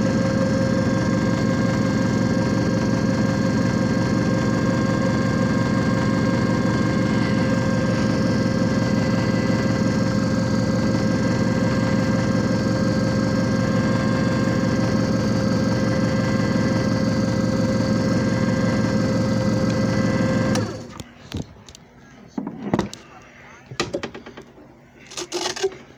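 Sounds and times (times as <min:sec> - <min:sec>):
machine motor humming: 0:00.0 - 0:21.0.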